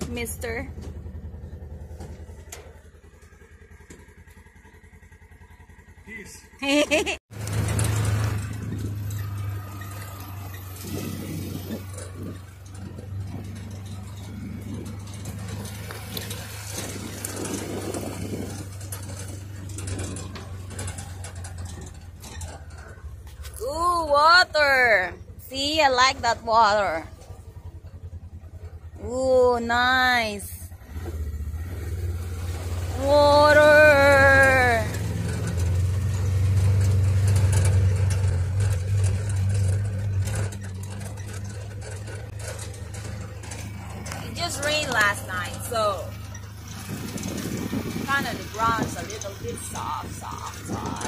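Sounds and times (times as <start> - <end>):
cab and frame rattling: 0.0 - 51.0
utility vehicle engine running: 0.0 - 51.0.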